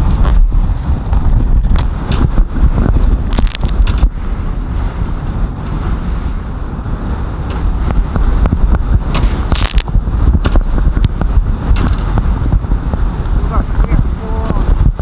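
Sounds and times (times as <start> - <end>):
waves slapping boat hull: 0.0 - 15.0
wind buffeting microphone: 0.0 - 15.0.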